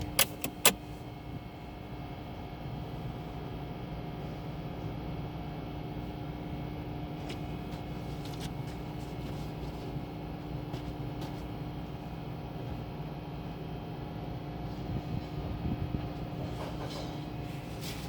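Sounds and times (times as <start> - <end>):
car wash machinery hum: 0.0 - 18.0.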